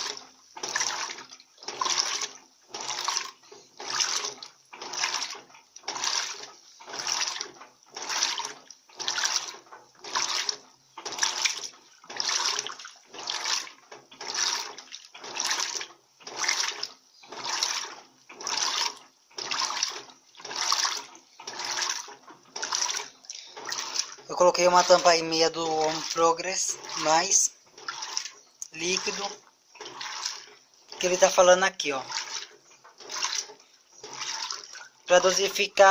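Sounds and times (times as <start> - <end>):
washing machine water sloshing: 0.0 - 35.9.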